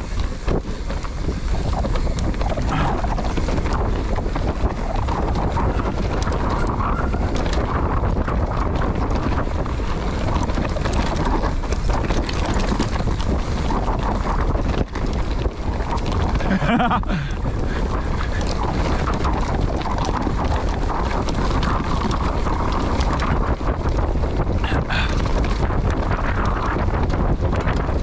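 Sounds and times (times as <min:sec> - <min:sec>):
bike clicks and knocks: 0:00.0 - 0:28.0
bike tyres rolling on dirt: 0:00.0 - 0:28.0
wind buffeting microphone: 0:00.0 - 0:28.0.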